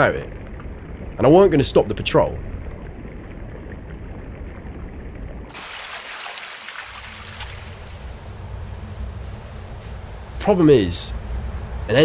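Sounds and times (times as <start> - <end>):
hissing outdoor water ambience: 0.0 - 12.0.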